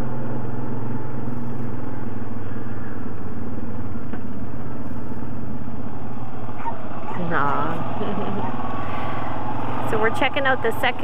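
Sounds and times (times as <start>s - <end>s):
atv engine running steadily: 0.0s - 11.0s.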